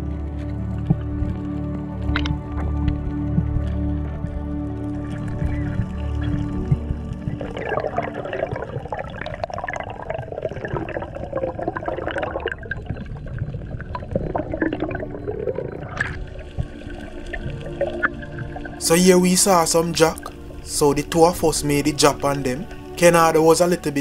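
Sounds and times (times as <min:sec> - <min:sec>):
underwater bubbling: 0:00.0 - 0:23.0.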